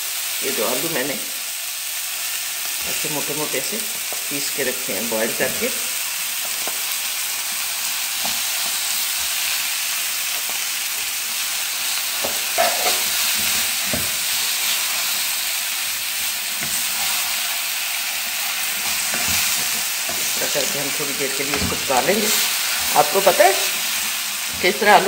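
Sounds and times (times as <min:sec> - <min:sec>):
masala sizzling in a frying pan: 0:00.0 - 0:25.0
spatula stirring potatoes: 0:02.3 - 0:25.0.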